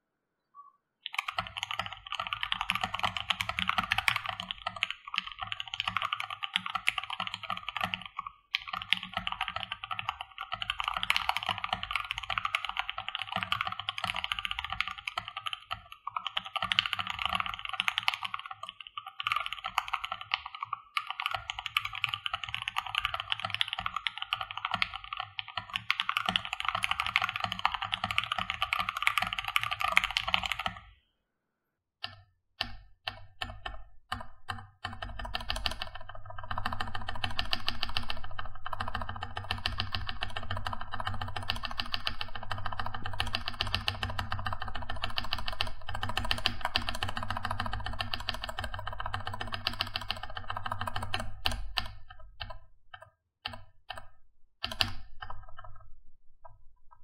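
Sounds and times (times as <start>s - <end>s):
mechanical keyboard typing: 1.1s - 30.9s, 32.0s - 57.0s.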